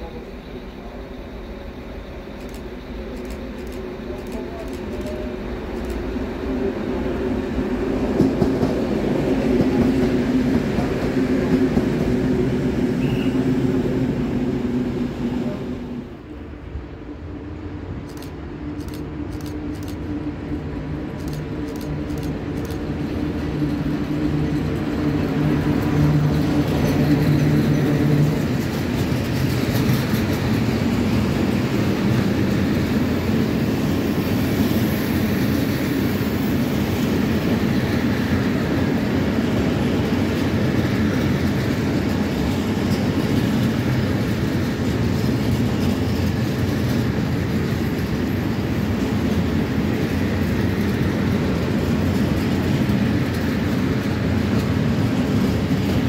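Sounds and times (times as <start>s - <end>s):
train wheel and rail noise: 0.0s - 56.0s.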